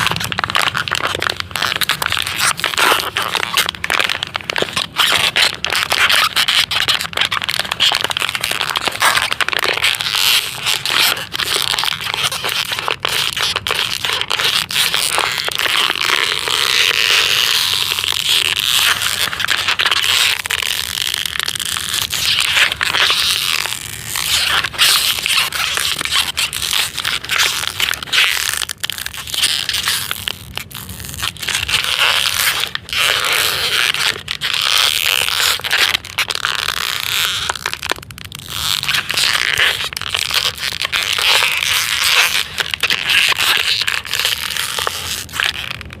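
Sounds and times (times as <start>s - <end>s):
plastic bottle crinkling: 0.0s - 46.0s.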